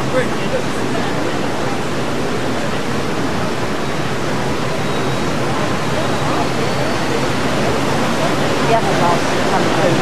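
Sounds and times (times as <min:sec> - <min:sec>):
paddle wheels churning water: 0:00.0 - 0:10.0.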